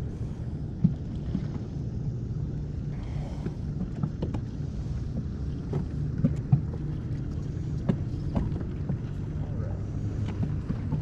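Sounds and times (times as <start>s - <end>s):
boat motor hum: 0.0s - 11.0s.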